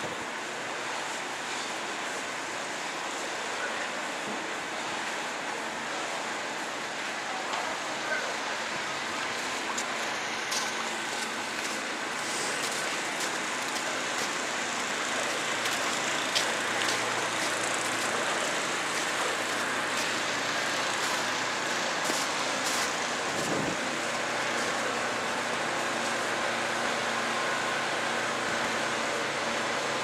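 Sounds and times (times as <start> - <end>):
city traffic hiss: 0.0 - 30.0.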